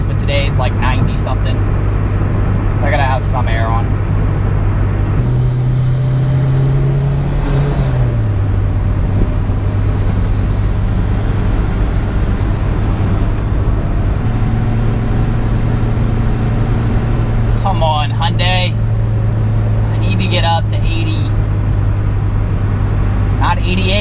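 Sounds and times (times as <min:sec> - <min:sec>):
car engine droning: 0:00.0 - 0:24.0
tyre and road noise: 0:00.0 - 0:24.0.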